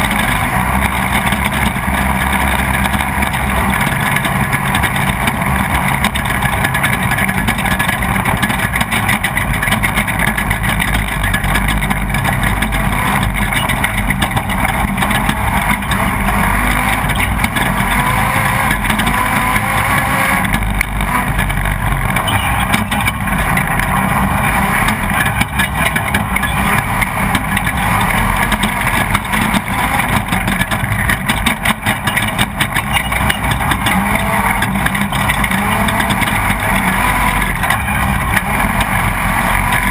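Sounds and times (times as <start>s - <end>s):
race vehicle engine running hard: 0.0s - 39.9s
road noise: 0.0s - 39.9s
small knocks and rattles: 0.0s - 39.9s.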